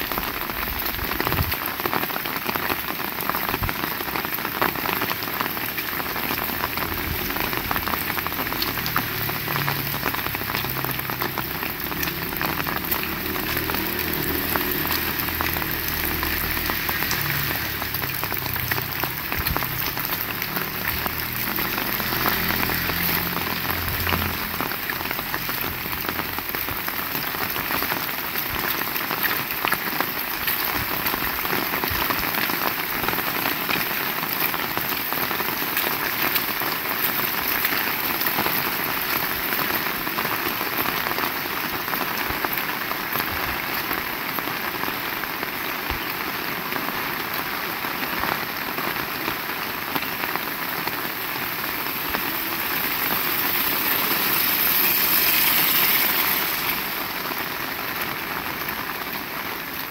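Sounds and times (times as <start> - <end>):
heavy rain hiss: 0.0 - 59.9.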